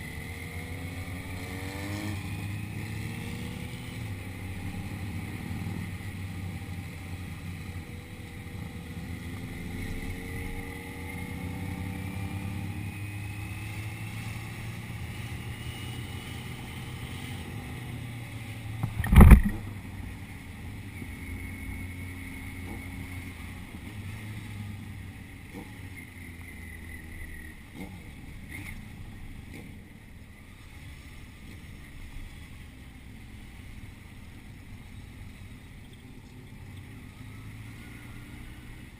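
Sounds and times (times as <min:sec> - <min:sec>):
engine humming: 0:03.0 - 0:38.9.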